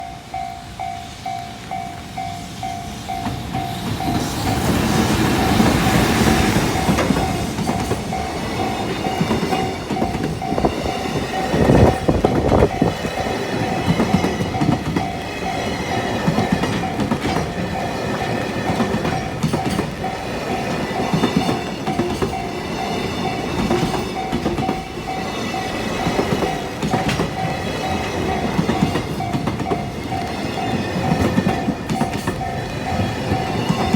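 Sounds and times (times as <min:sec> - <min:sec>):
crossing warning bell ringing: 0:00.0 - 0:33.9
train wheels clattering: 0:00.0 - 0:33.9.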